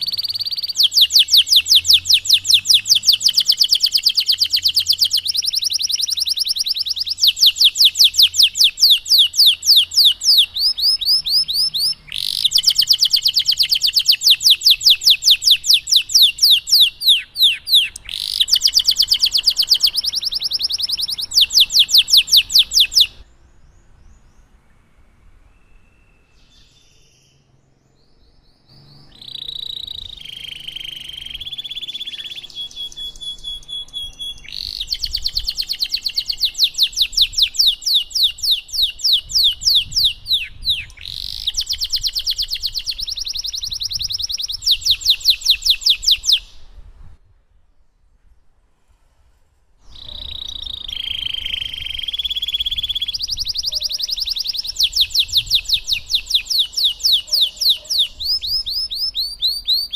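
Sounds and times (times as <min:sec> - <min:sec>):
canary singing trills: 0:00.0 - 0:24.7, 0:25.4 - 0:46.8, 0:49.8 - 0:59.9.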